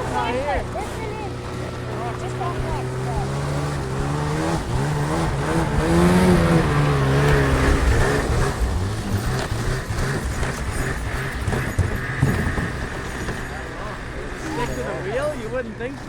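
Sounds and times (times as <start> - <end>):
engine revving and rumbling: 0.0 - 16.0.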